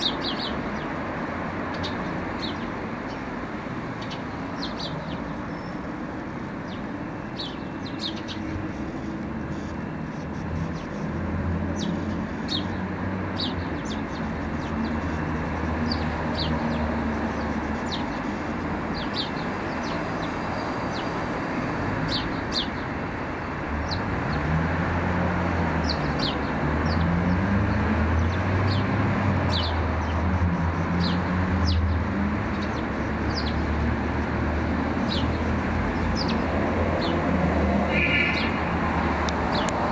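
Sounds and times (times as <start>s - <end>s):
small birds chirping: 0.0s - 24.8s, 25.5s - 39.9s
traffic or engine rumble: 0.0s - 39.9s.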